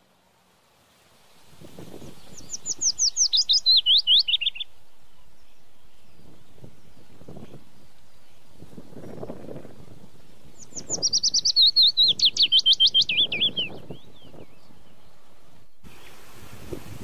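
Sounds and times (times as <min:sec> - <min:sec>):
songbird trill: 0:01.6 - 0:16.3.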